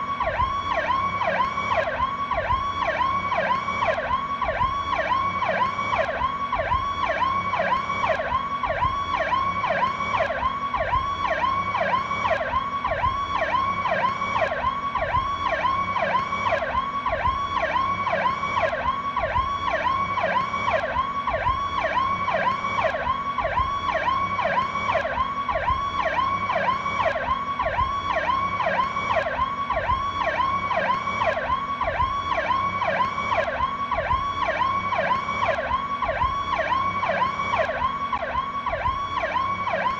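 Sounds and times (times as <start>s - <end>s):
electronic police siren: 0.0s - 39.9s.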